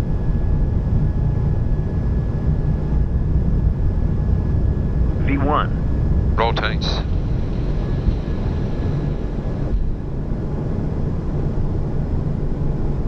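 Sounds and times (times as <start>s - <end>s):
faint steady whine: 0.0s - 13.0s
jet engines rumbling: 0.0s - 13.0s.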